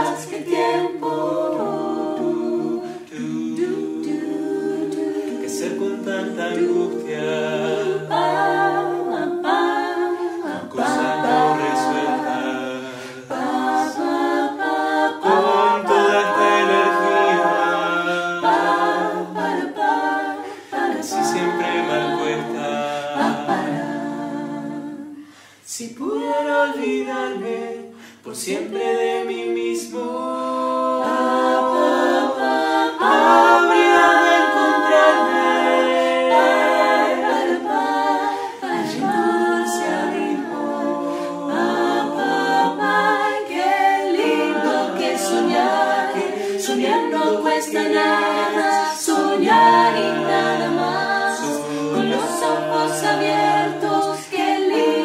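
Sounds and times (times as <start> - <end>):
a cappella group singing in harmony: 0.0 - 55.0.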